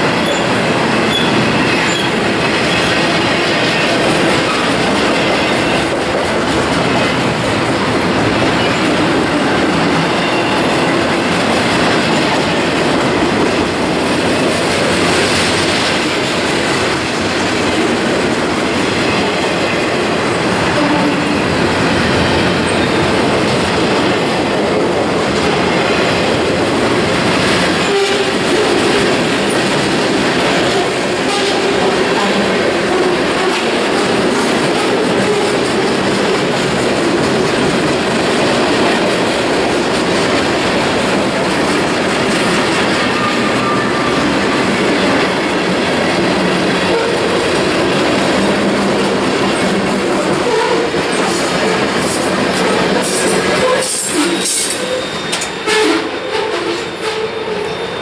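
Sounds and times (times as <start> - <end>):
train wheels running on rails: 0.0 - 58.0.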